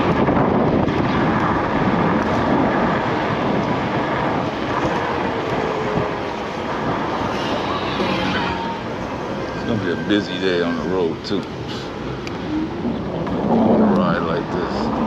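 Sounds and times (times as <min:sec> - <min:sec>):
road noise: 0:00.0 - 0:15.0
wind rush on microphone: 0:00.0 - 0:15.0.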